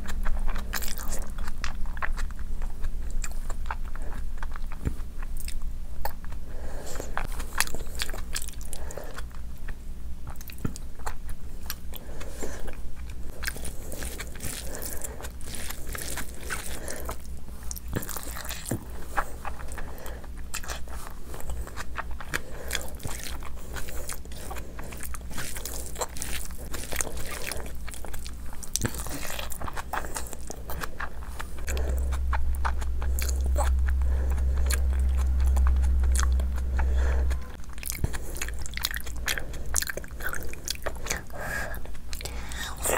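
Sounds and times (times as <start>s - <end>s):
chewing and biting food: 0.0s - 42.9s
steady low hum: 0.0s - 42.9s.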